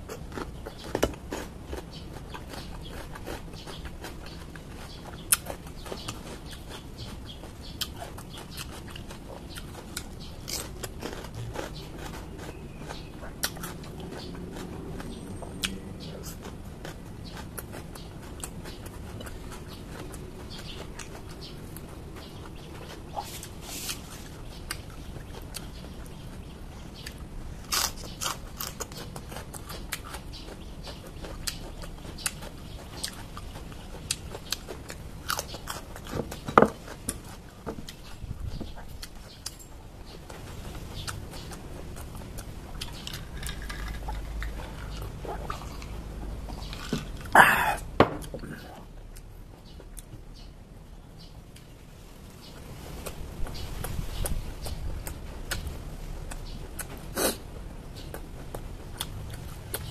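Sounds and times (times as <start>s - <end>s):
person chewing crisp vegetables: 0.0s - 50.5s, 51.2s - 59.9s.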